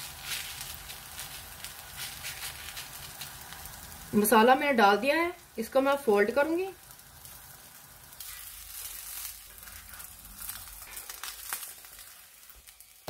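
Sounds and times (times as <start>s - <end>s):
dosa sizzling in oil: 0.0s - 13.0s.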